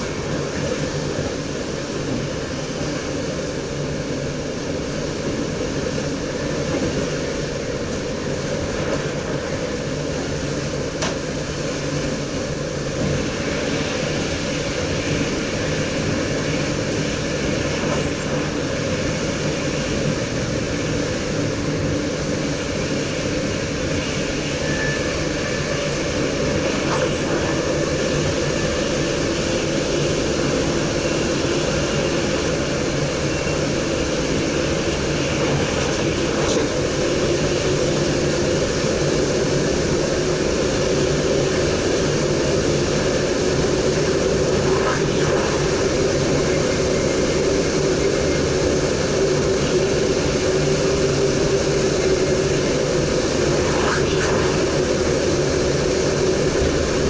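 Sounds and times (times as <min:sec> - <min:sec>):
electric train running: 0:00.0 - 0:57.0.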